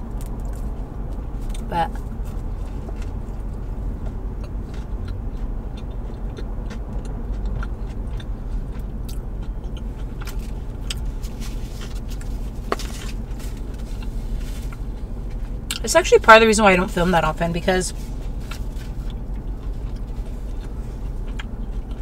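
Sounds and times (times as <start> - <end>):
person biting and chewing: 0.0 - 15.8, 18.2 - 22.0
low hum inside a car: 0.0 - 22.0.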